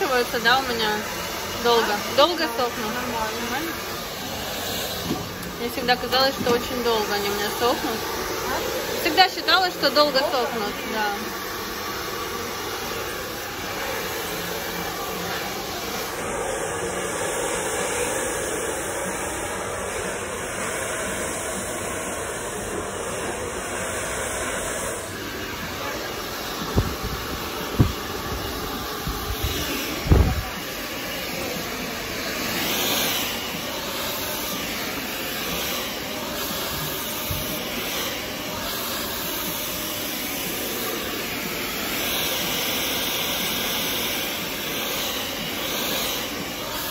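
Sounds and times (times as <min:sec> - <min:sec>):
hair dryer running: 0:00.0 - 0:46.9.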